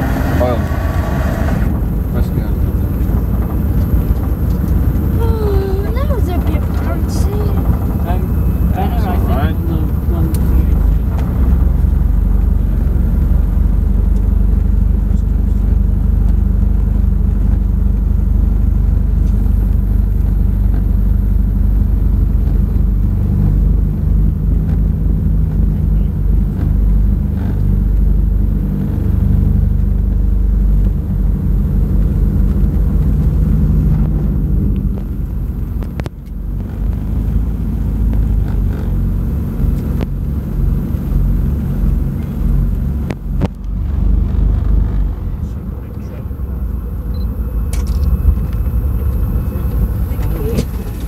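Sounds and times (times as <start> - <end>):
propeller engines droning: 0.0 - 51.0.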